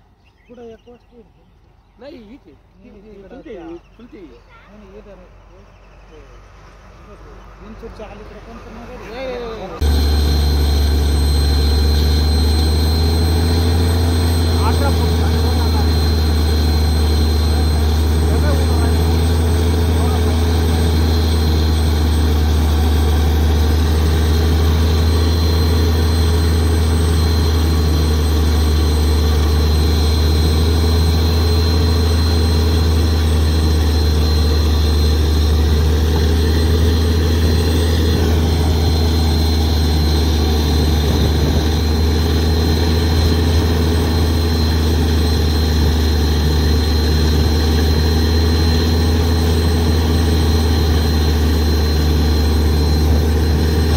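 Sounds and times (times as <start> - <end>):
heavy engine humming: 0.0 - 53.9.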